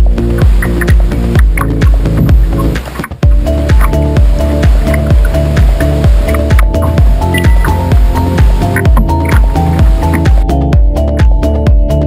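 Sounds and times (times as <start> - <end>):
music with kick drum beat: 0.0 - 12.0.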